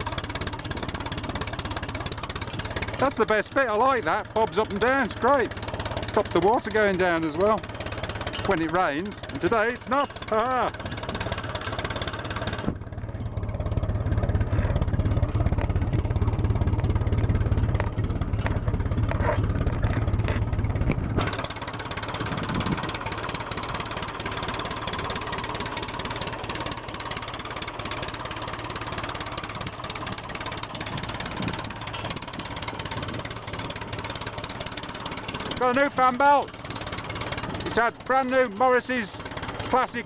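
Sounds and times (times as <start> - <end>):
heavy low rumble: 0.0 - 40.0
tractor engine ticking over: 0.0 - 40.0.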